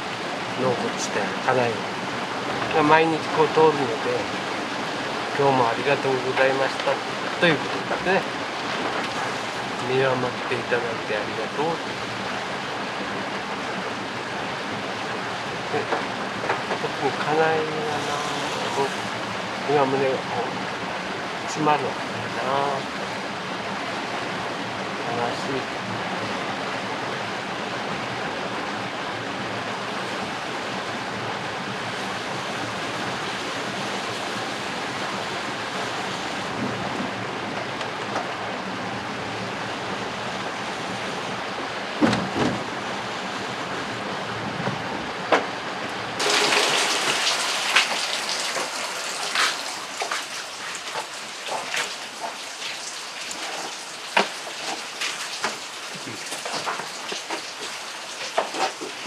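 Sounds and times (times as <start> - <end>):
patter of raindrops: 0.0 - 42.2, 45.8 - 59.0
rain: 0.0 - 59.0.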